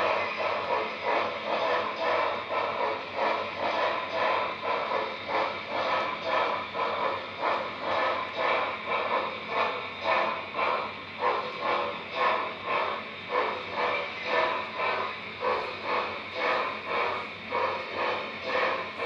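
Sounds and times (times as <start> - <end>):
model train wheels clattering: 0.0 - 19.0.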